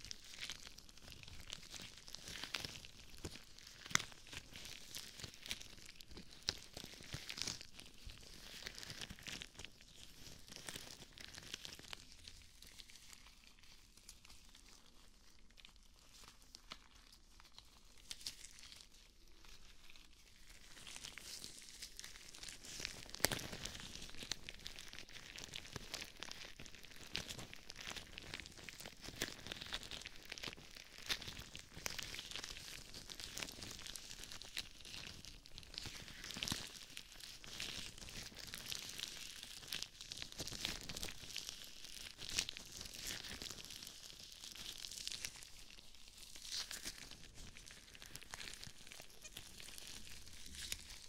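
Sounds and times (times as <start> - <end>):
rubber gloves rubbing and crinkling: 0.0 - 51.0.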